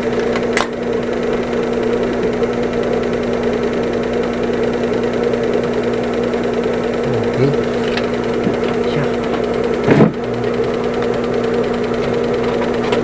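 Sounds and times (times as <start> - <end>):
sewing machine stitching: 0.0 - 13.0.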